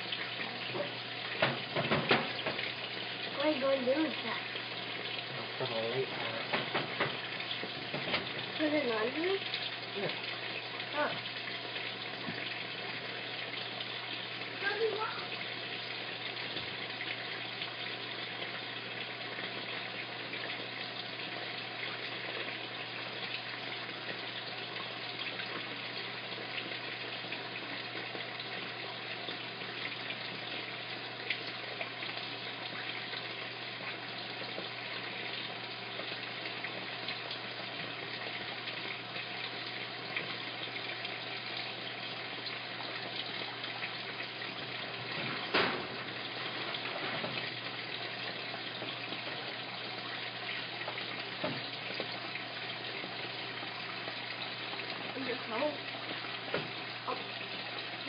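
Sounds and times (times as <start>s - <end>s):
water pouring into drum: 0.0s - 58.0s.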